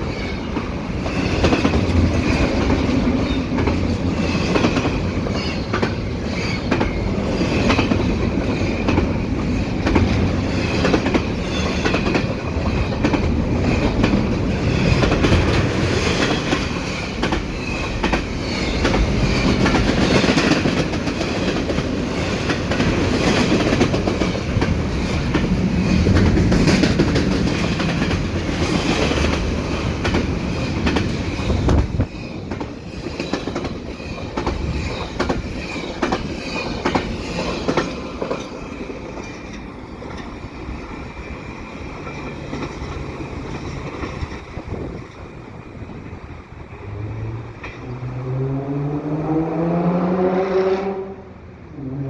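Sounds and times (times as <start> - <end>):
wheels clacking over rail joints: 0.0 - 48.4
freight train wheels rumbling: 0.0 - 52.0.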